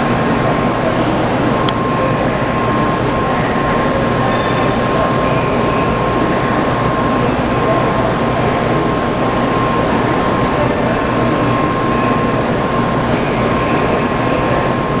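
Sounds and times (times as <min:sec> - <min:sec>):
high train whine: 0:00.0 - 0:15.0.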